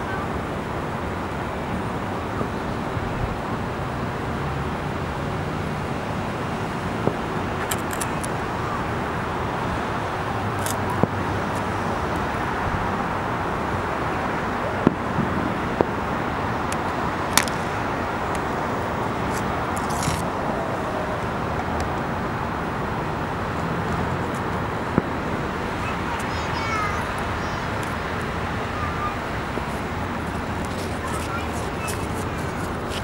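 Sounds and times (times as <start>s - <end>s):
city traffic hum: 0.0s - 33.0s.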